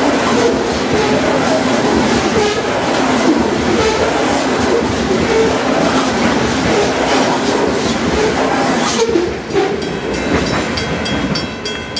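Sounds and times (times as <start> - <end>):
freight train wheels clattering: 0.0 - 11.9.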